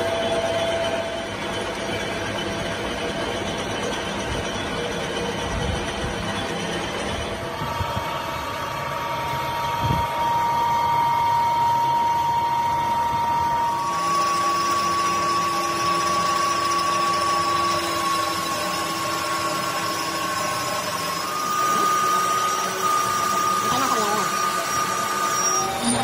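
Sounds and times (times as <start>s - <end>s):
metal lathe whine: 0.0s - 26.0s.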